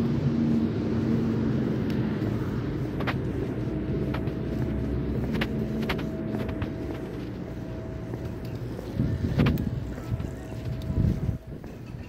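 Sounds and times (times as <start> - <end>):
engine hum: 0.0 - 12.0
road traffic rumble: 0.0 - 12.0.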